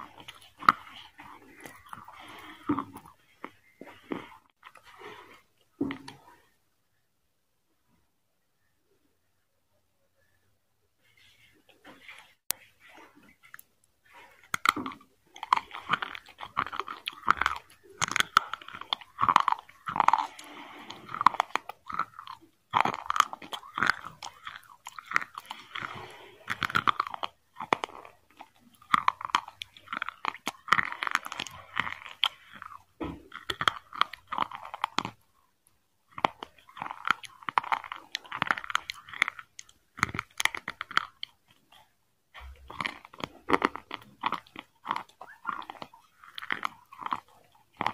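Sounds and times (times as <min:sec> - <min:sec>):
person chewing crunchy food: 0:00.0 - 0:06.6, 0:11.1 - 0:47.9.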